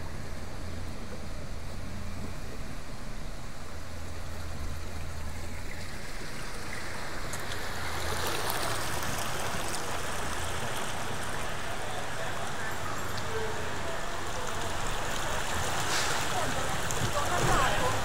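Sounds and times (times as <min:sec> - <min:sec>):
floodwater rushing around car: 0:00.0 - 0:18.0.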